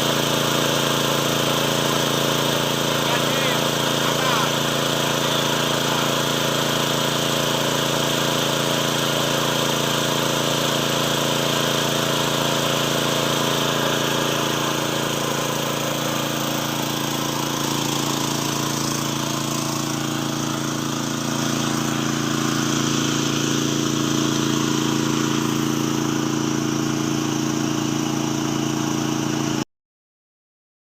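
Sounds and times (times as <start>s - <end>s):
small engine running: 0.0s - 29.6s.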